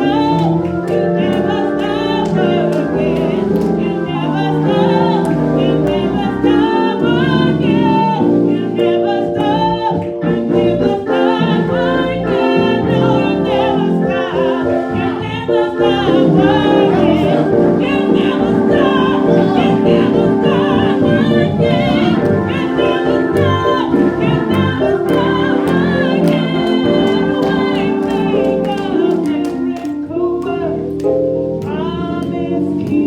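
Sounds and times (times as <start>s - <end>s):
choir singing gospel song: 0.0s - 33.0s.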